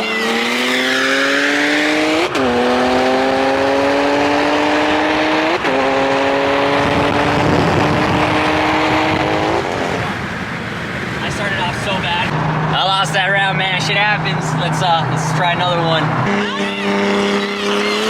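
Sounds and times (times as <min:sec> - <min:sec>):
car engine at full throttle: 0:00.0 - 0:18.0.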